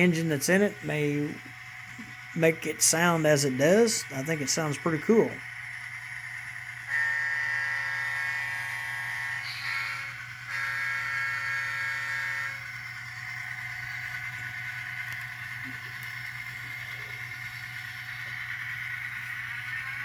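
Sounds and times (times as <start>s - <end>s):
model locomotive engine sound: 0.0s - 20.0s
steady hum: 0.0s - 20.0s.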